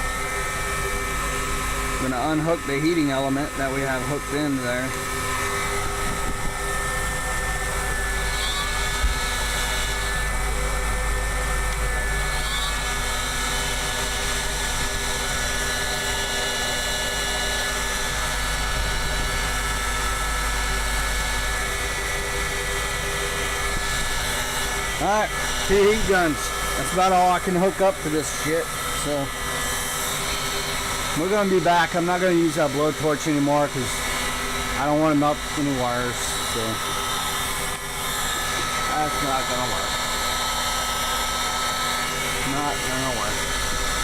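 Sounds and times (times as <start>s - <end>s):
heat guns whining: 0.0s - 44.0s.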